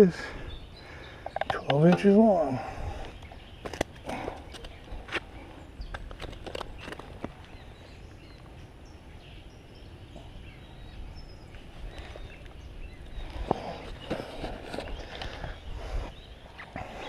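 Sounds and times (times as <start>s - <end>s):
faint bird chirps: 0.0s - 17.0s
wind rumble on microphone: 2.6s - 17.0s.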